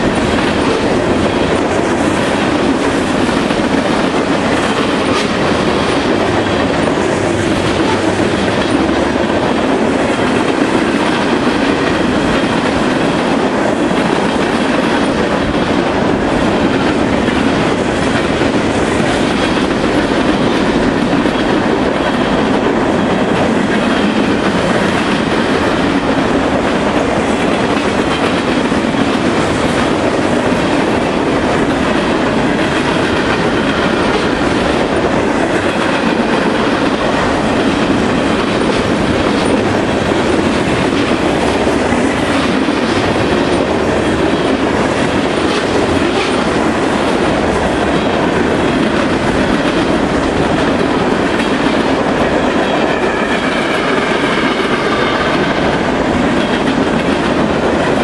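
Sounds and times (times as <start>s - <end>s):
steel wheels running on rails: 0.0s - 58.0s.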